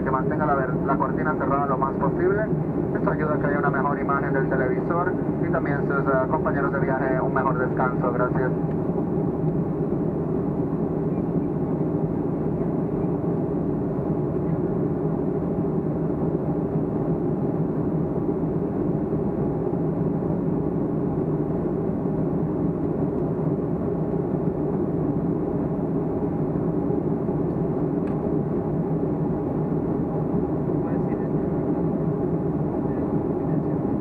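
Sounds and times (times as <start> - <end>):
airplane cabin drone: 0.0 - 34.0.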